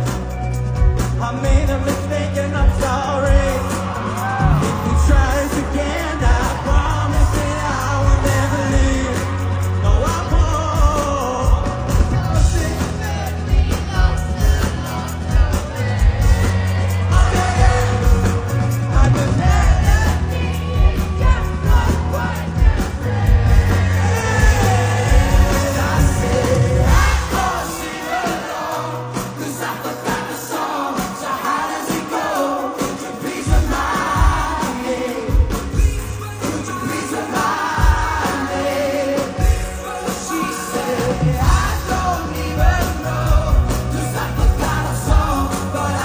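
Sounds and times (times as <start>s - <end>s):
drum and bass beat: 0.0s - 46.0s
live pop band: 0.0s - 46.0s
man singing: 1.0s - 46.0s.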